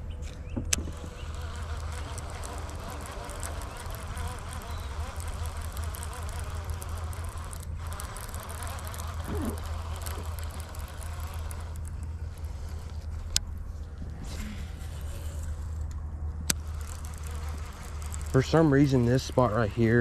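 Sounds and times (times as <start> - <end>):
fishing reel cranking: 0.8 - 13.4, 16.5 - 20.0.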